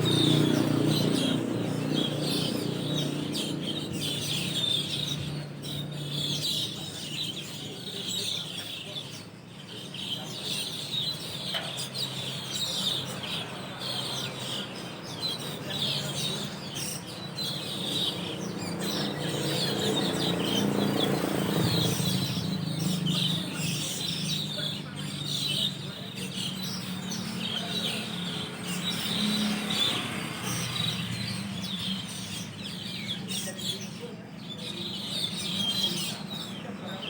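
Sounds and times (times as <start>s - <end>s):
starlings chattering: 0.0s - 37.0s.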